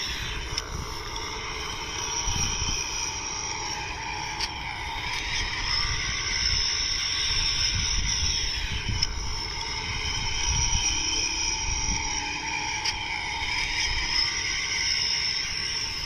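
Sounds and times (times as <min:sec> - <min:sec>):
high buzzing drone: 0:00.0 - 0:16.0.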